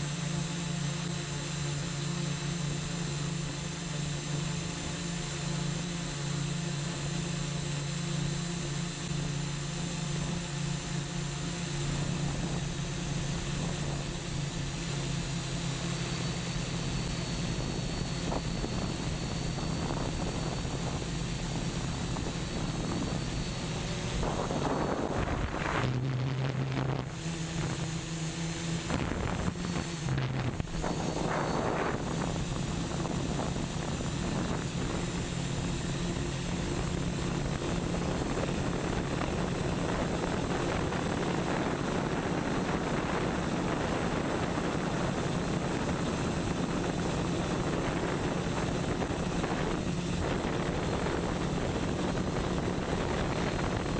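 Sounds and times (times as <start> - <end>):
drone propeller hum: 0.0 - 53.9
high motor whine: 0.0 - 53.9
rushing wind noise: 8.8 - 53.9.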